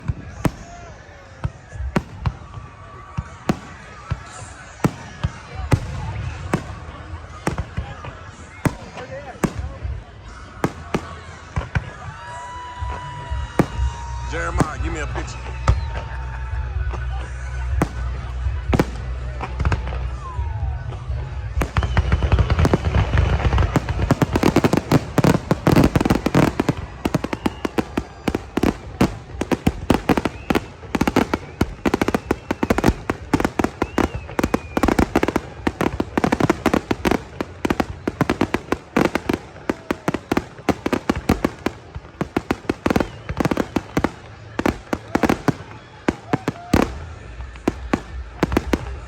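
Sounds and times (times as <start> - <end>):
deep fireworks booms: 0.0 - 49.0
fireworks crackling bangs: 0.0 - 49.0
whistling fireworks: 0.0 - 49.0.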